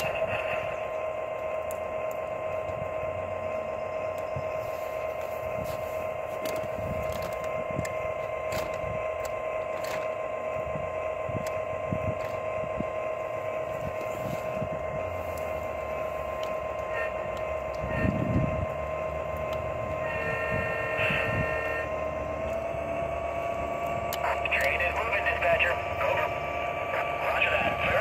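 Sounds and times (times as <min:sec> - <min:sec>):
model train motor whine: 0:00.0 - 0:28.0.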